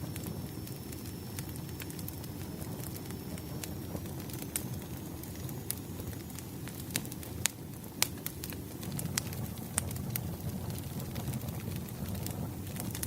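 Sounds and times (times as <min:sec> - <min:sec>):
bonfire popping and crackling: 0:00.0 - 0:13.0
fire low rumble: 0:00.0 - 0:13.0.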